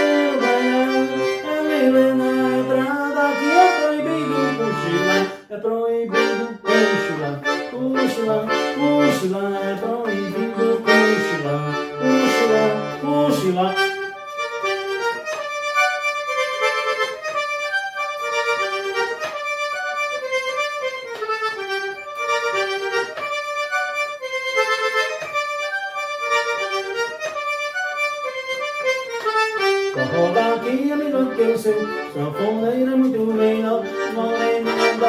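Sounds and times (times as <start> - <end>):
steady rhythmic beat: 0.0 - 5.5, 6.1 - 35.0
accordion melody: 0.0 - 35.0.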